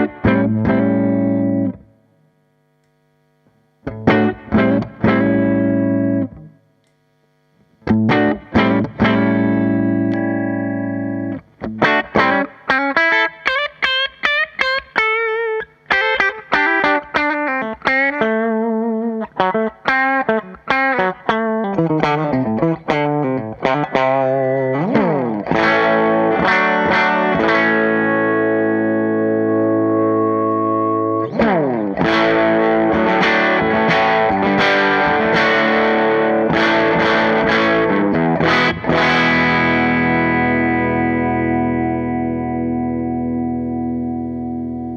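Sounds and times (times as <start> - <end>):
electric guitar lead line: 0.0 - 44.9
electric guitar ringing chords: 0.0 - 44.9.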